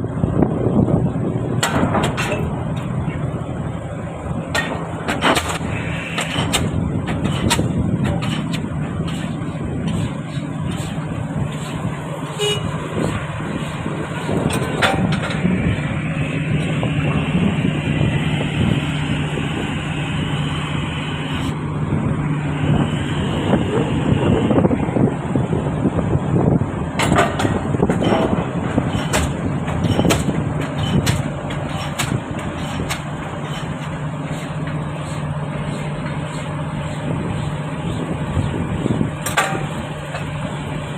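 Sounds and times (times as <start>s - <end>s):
piling rig engine running: 0.0s - 40.9s.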